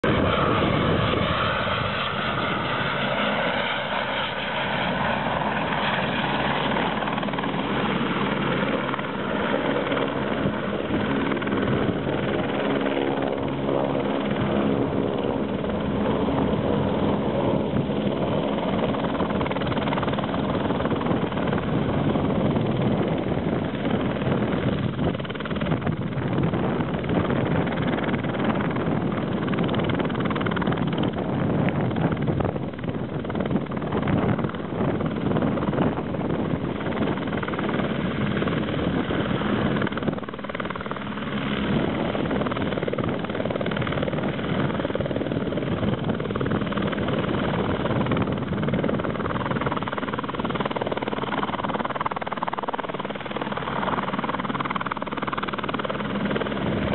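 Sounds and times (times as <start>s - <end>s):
helicopter hovering: 0.0s - 56.9s.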